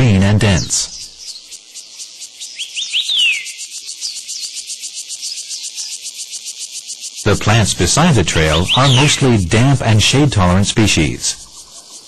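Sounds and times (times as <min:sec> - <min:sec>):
bird calling: 0:00.0 - 0:12.0
forest insects chirring: 0:00.0 - 0:12.0.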